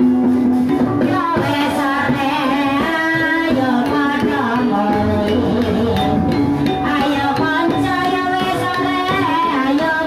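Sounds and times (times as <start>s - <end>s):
hand drums: 0.0s - 10.0s.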